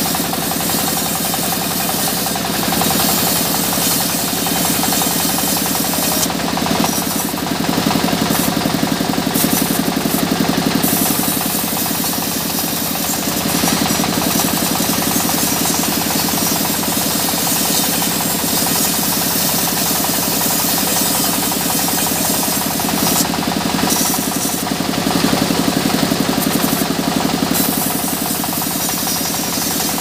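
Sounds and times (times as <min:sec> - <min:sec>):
harsh hiss: 0:00.0 - 0:07.6, 0:08.2 - 0:24.7, 0:26.4 - 0:30.0
sawmill saw droning: 0:00.0 - 0:30.0.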